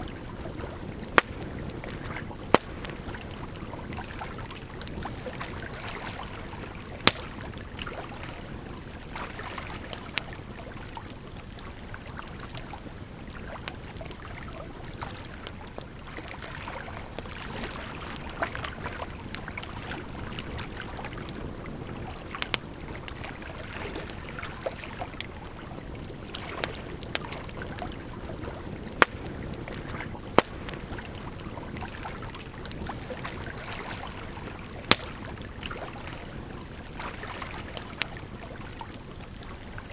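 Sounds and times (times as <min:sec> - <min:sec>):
firewood crackling and popping: 0:00.0 - 0:39.9
flowing water: 0:00.0 - 0:39.9.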